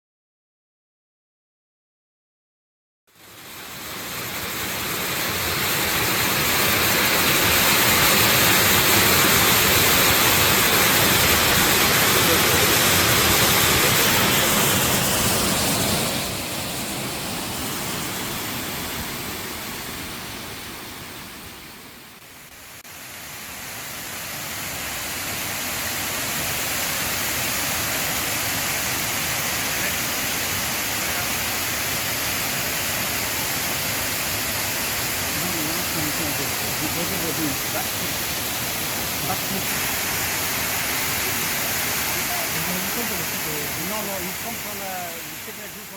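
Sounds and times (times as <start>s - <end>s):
waterfall rushing: 3.2s - 45.9s.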